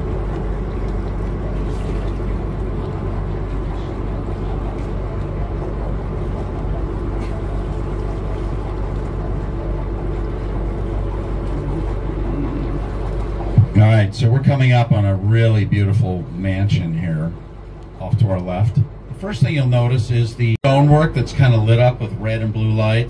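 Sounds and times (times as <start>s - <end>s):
boat engine humming: 0.0s - 23.0s
wash of noise: 0.0s - 23.0s.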